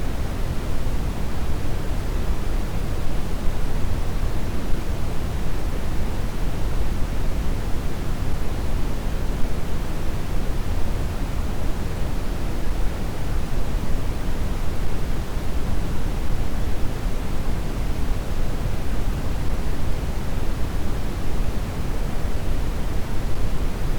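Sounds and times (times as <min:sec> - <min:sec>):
brown noise hiss and rumble: 0:00.0 - 0:23.9.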